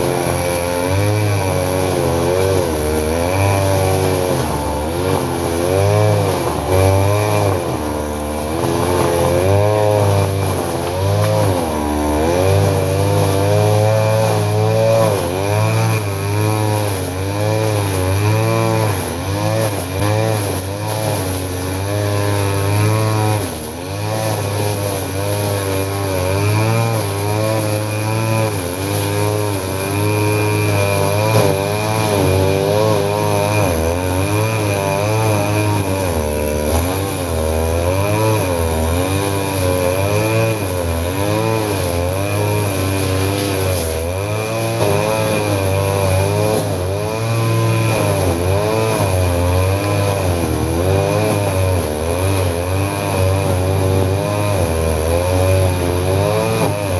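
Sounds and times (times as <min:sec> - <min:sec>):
brush cutter engine cutting grass: 0:00.0 - 0:56.9.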